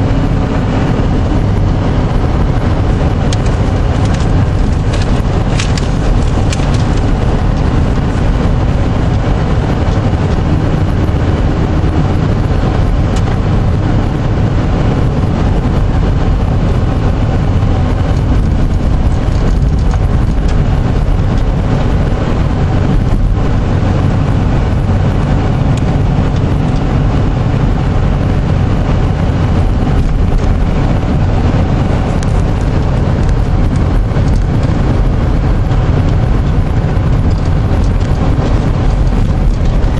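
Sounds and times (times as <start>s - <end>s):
car engine and tyre noise on slush: 0.0s - 39.9s.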